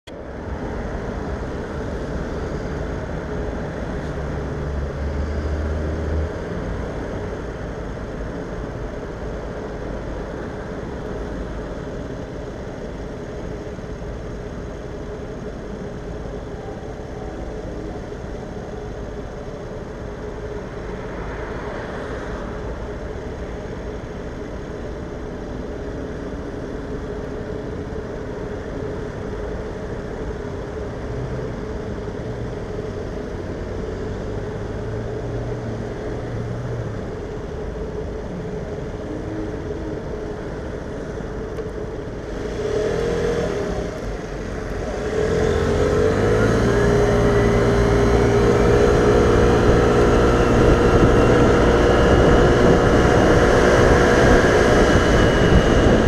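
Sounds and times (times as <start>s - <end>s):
car traffic rumble: 0.0s - 56.0s.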